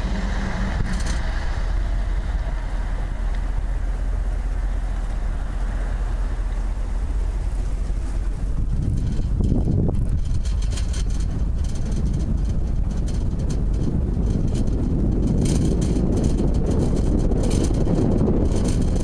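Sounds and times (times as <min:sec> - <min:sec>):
road rumble: 0:00.0 - 0:19.0
vehicle engine: 0:00.0 - 0:19.0.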